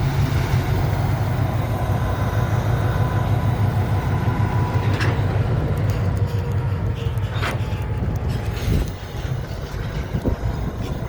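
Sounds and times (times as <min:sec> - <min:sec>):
low pulsing engine rumble: 0:00.0 - 0:11.0.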